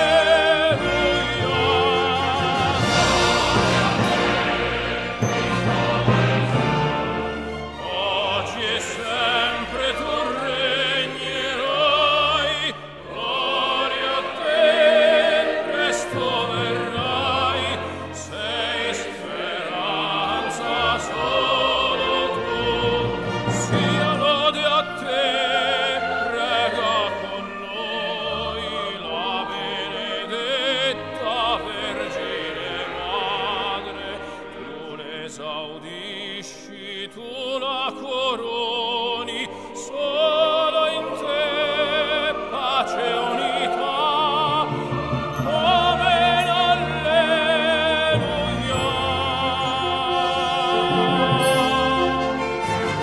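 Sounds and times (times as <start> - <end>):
orchestral sacred music: 0.0 - 53.0.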